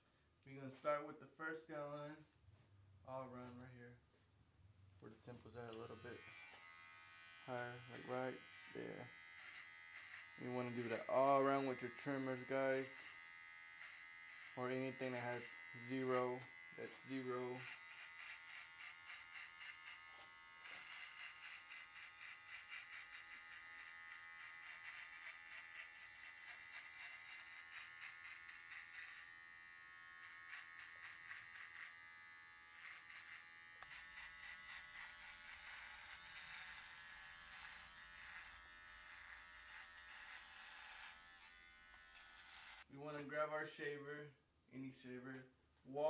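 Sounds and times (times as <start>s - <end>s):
hair trimmer buzzing: 5.7s - 42.9s.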